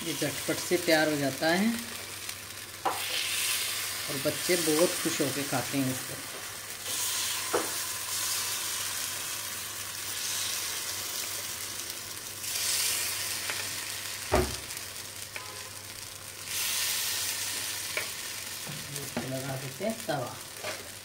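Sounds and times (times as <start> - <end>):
batter sizzling in hot oil: 0.0 - 21.0.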